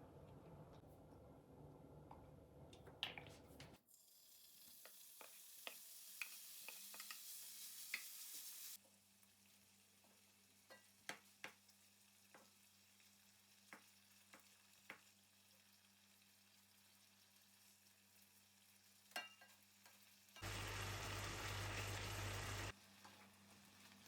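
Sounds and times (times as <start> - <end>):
food sizzling in a frying pan: 3.8 - 24.0.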